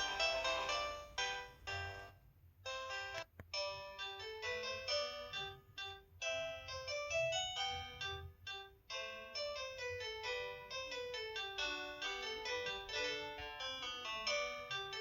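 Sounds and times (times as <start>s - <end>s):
phone melody ringtone: 0.0s - 15.0s.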